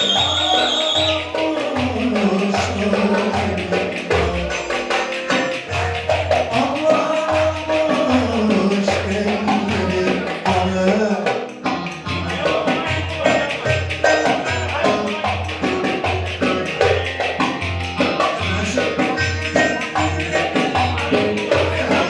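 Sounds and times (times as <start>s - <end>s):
saz melody: 0.0s - 22.0s
steady percussion beat: 0.0s - 22.0s.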